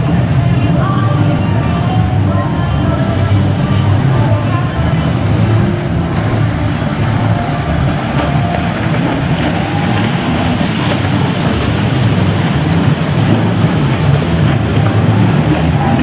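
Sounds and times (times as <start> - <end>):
jet ski engines droning: 0.0 - 16.0
water rushing and spray: 0.0 - 16.0.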